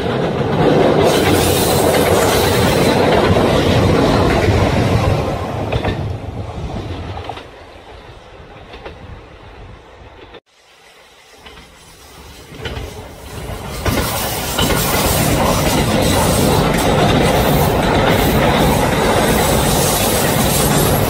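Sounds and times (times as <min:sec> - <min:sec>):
train running on rails: 0:00.0 - 0:21.0.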